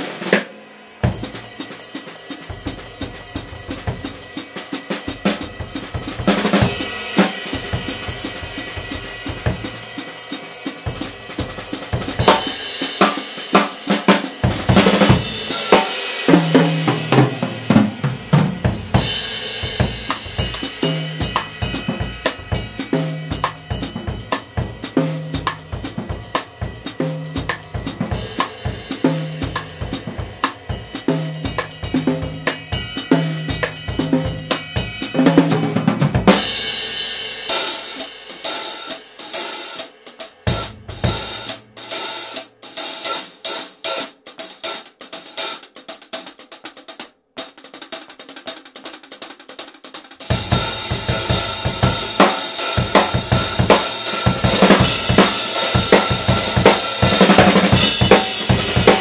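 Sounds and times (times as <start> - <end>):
drum kit playing: 0.0 - 59.0.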